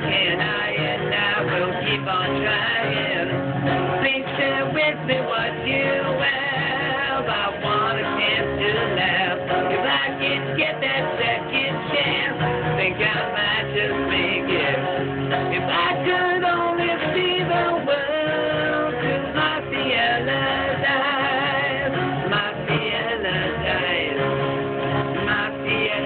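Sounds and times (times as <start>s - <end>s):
man singing: 0.0s - 24.6s, 25.2s - 26.0s
acoustic guitar strumming: 0.0s - 26.0s.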